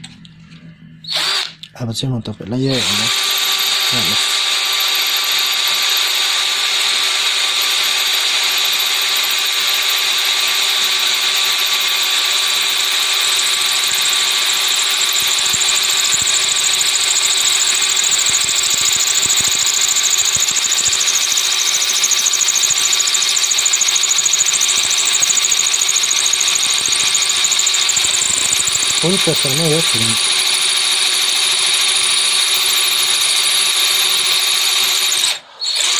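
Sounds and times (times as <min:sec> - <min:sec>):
drill grinding into brick: 0:01.0 - 0:01.6, 0:02.6 - 0:35.9
cordless drill motor whine: 0:01.0 - 0:01.7, 0:02.7 - 0:35.9.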